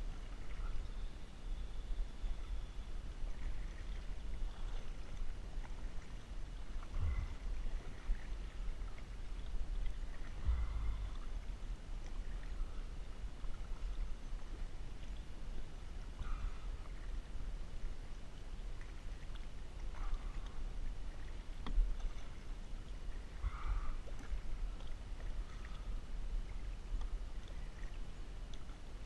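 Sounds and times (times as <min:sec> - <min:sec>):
steady low rumble: 0:00.0 - 0:29.0
water sloshing around kayak: 0:00.0 - 0:29.0.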